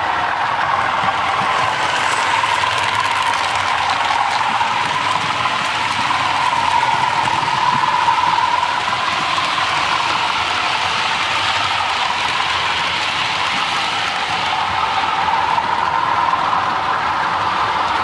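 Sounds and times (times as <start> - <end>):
model train motors whirring: 0.0 - 18.0
wheels rolling over track: 0.0 - 18.0.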